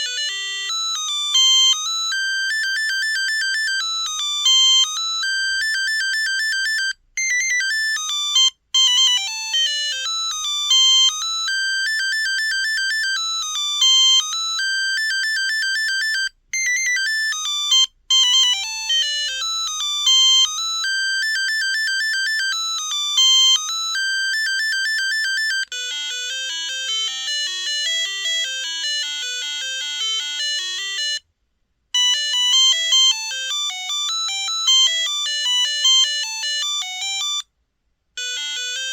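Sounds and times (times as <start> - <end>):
monophonic phone ringtone: 0.0 - 31.2, 32.0 - 37.5, 38.2 - 38.9.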